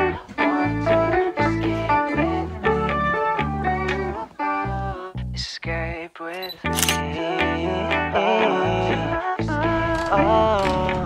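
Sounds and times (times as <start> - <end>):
bass line: 0.0 - 6.0, 6.6 - 11.0
guitar instrumental music: 0.0 - 11.0.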